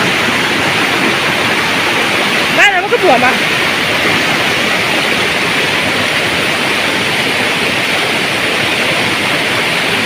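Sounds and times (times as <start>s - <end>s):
heavy rain: 0.0s - 10.0s
running rainwater: 0.0s - 10.0s.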